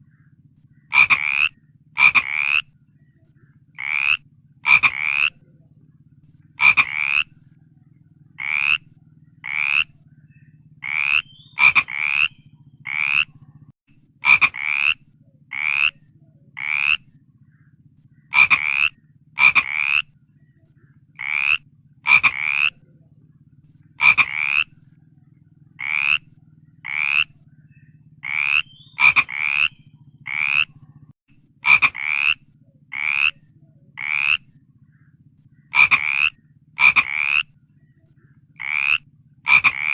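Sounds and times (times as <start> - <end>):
frog croaking: 0.0 - 2.8, 3.4 - 20.2, 20.9 - 37.6, 38.3 - 39.9
faint low hum: 0.0 - 39.9.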